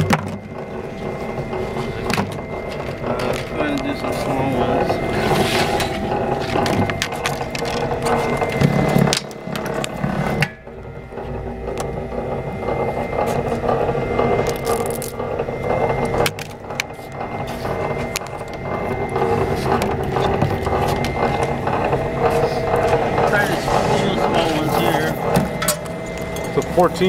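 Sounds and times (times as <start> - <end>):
machine gears clattering: 0.0 - 27.0
thin steady machine whine: 0.0 - 27.0.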